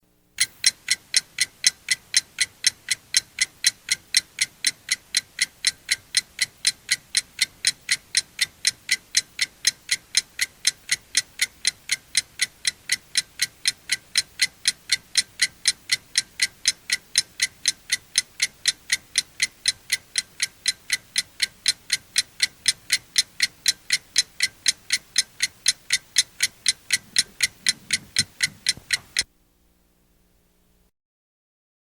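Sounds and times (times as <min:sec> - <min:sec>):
mechanical alarm clock ticking: 0:00.4 - 0:29.3.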